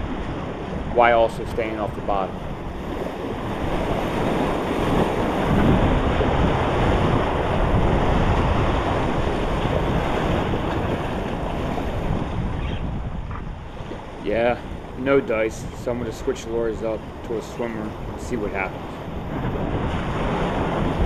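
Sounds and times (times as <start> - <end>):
surf breaking over rocks: 0.0 - 12.5, 13.4 - 21.0
wind buffeting microphone: 0.0 - 21.0.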